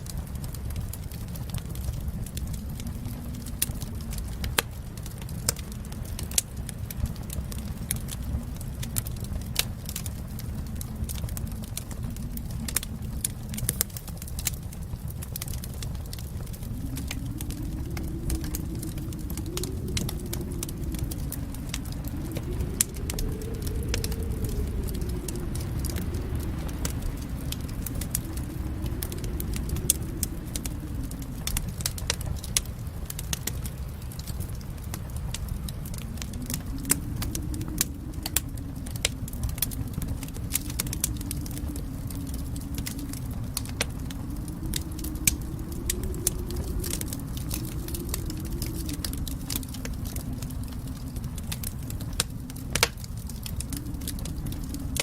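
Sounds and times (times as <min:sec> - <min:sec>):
steady low rumble: 0:00.0 - 0:55.0
wood fire crackling: 0:00.0 - 0:55.0.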